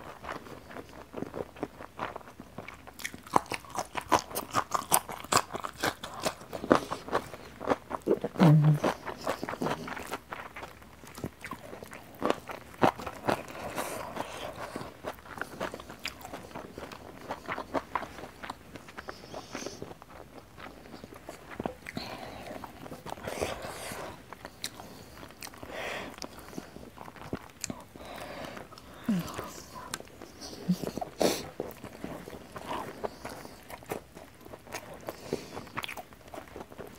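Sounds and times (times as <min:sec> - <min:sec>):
small food crunches: 0:00.1 - 0:19.2, 0:19.8 - 0:36.9
person chewing and biting: 0:00.1 - 0:36.9.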